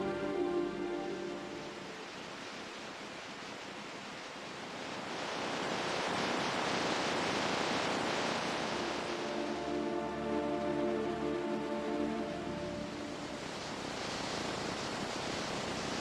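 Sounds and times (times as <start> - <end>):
ocean waves rushing: 0.0 - 16.0.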